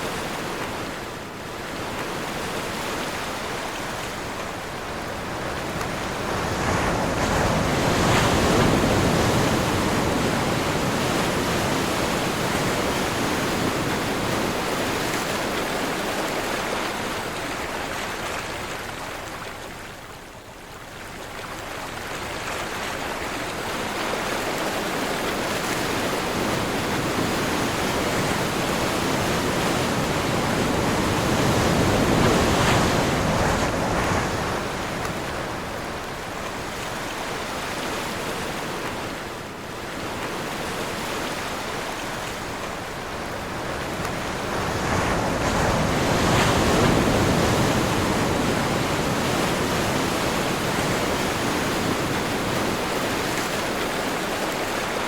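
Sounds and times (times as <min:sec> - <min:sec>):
ocean surf breaking: 0:00.0 - 0:17.4, 0:23.6 - 0:55.0
wind: 0:00.0 - 0:55.0.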